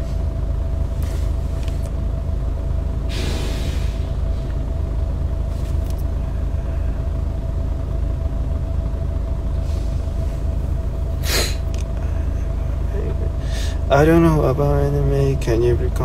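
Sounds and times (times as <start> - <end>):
car rumble from inside cabin: 0.0 - 16.0
faint steady hum: 0.0 - 16.0.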